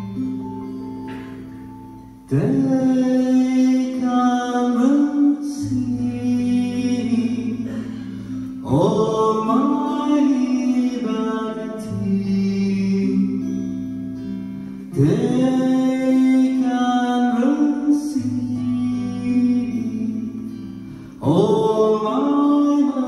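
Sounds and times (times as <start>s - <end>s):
acoustic guitar: 0.0s - 23.0s
man singing: 2.3s - 14.0s, 14.9s - 23.0s.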